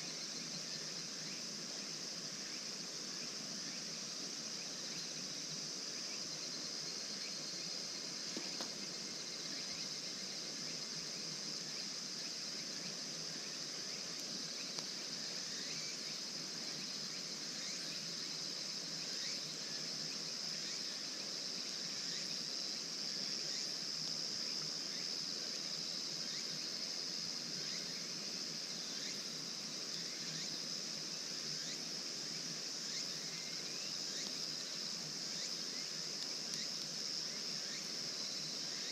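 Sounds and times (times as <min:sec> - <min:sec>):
faint hiss: 0:00.0 - 0:38.9
insect chorus chirring: 0:00.0 - 0:38.9.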